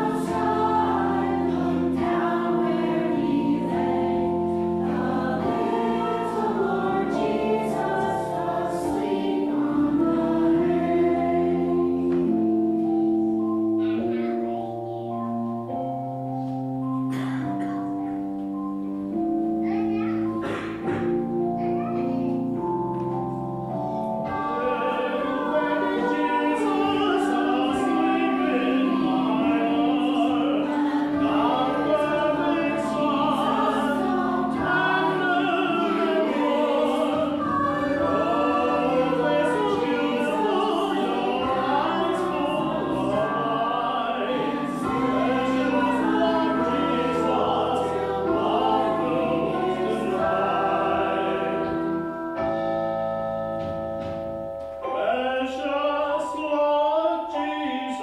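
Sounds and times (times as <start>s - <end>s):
choir singing: 0.0s - 15.1s, 22.6s - 53.2s, 54.8s - 58.0s
instrumental accompaniment: 0.0s - 58.0s.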